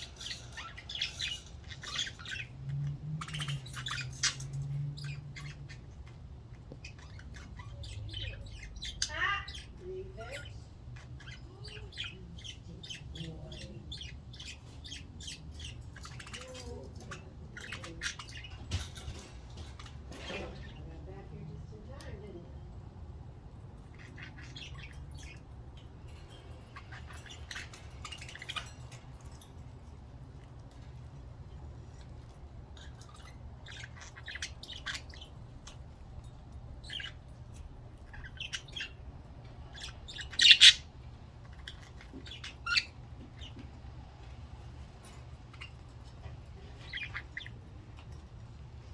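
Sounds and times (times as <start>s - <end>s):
budgerigars chirping: 0.0s - 21.0s, 23.2s - 48.9s.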